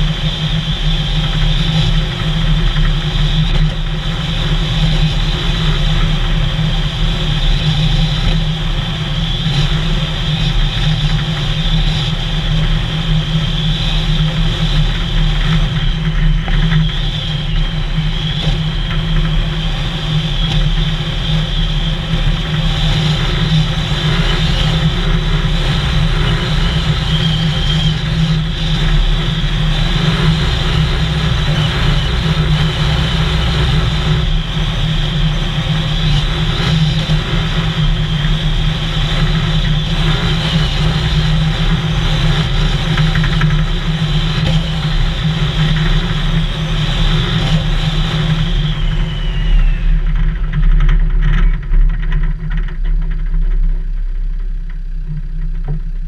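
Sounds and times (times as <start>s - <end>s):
road noise: 0.0s - 53.2s
vehicle engine running: 0.0s - 56.0s.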